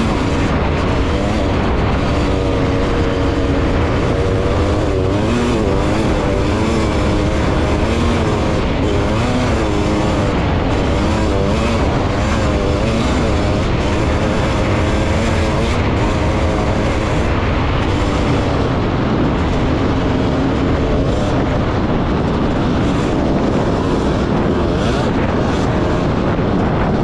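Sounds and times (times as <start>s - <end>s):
dense rushing noise: 0.0s - 27.0s.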